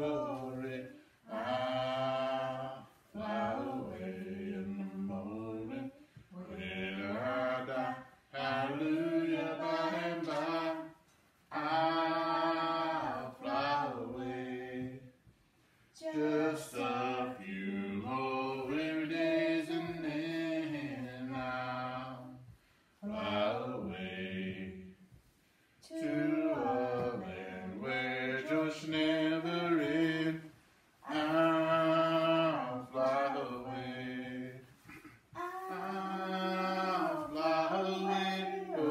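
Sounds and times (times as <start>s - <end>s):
congregation singing a hymn: 0.0s - 15.2s, 16.0s - 25.1s, 25.8s - 38.9s.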